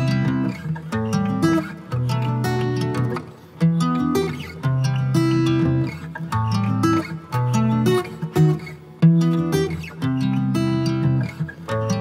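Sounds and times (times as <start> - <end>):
acoustic guitar playing chords: 0.0 - 12.0.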